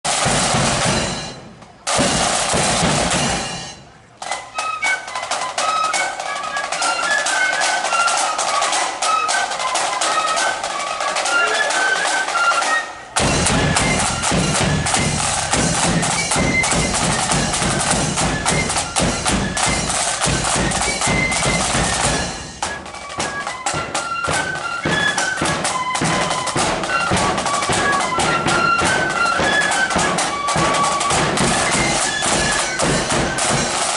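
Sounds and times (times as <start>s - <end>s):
bass drum and drum line: 0.0s - 5.7s, 12.0s - 33.9s
snare drum roll: 0.0s - 33.9s
high flute melody: 3.1s - 33.9s.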